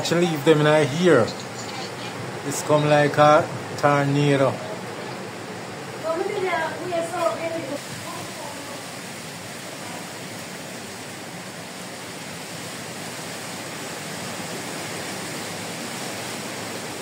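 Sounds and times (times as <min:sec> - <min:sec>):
strong wind rushing through palms: 0:00.0 - 0:17.0.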